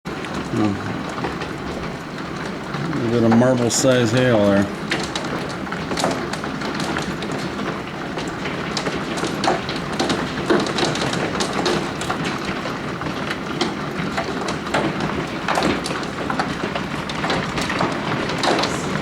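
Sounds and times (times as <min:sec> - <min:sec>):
hailstones clattering: 0:00.1 - 0:19.0.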